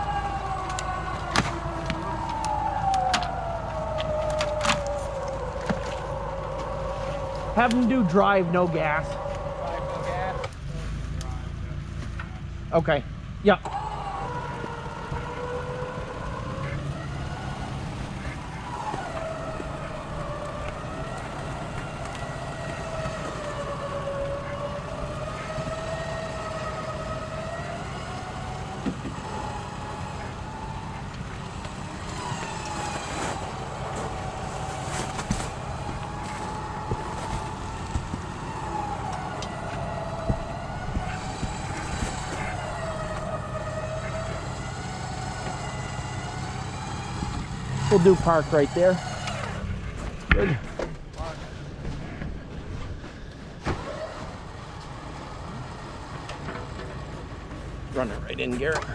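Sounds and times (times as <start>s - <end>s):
tracked vehicle engine whining: 0.0s - 58.9s.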